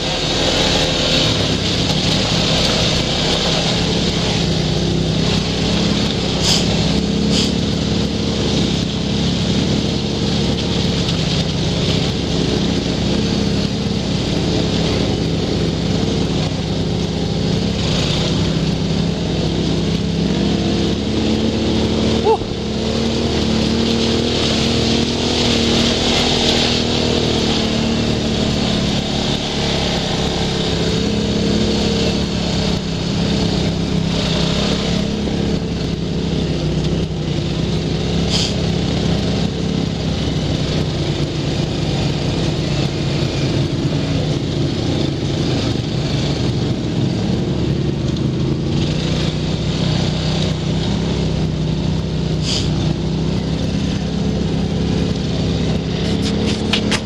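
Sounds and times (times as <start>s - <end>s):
quad engine running: 0.0s - 57.0s
wind and trail noise: 0.0s - 57.0s.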